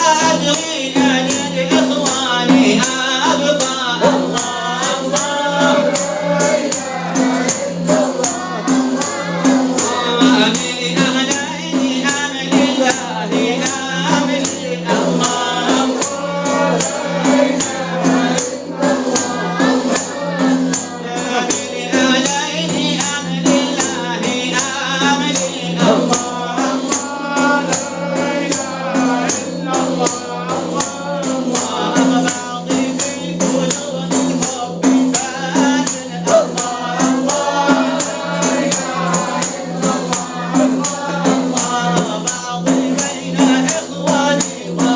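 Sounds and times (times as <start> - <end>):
frame drums with jingles: 0.0 - 44.9
voices singing a chant: 0.0 - 44.9.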